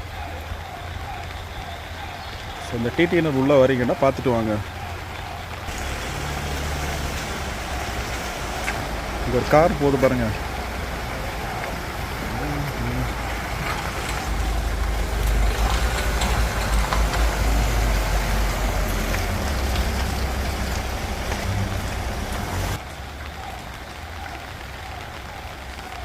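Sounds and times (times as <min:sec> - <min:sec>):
rain hiss: 0:00.0 - 0:26.0
vehicle engine rumble: 0:00.0 - 0:26.0.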